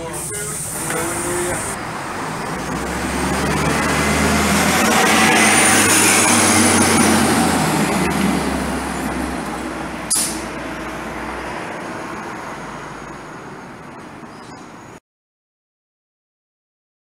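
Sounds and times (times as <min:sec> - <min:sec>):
bus engine driving past: 0:00.0 - 0:14.5.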